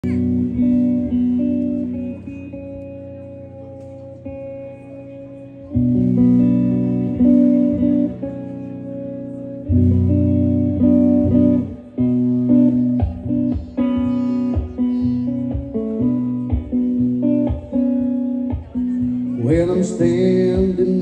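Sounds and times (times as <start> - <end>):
blues-rock band playing: 0.0 - 21.0.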